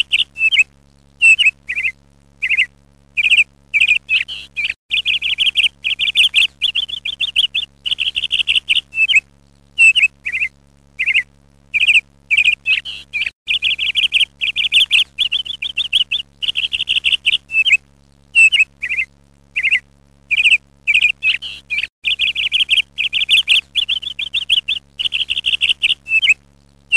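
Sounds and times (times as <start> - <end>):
ducklings peeping: 0.0 - 0.6, 1.2 - 9.2, 9.8 - 11.2, 11.8 - 17.8, 18.4 - 26.4.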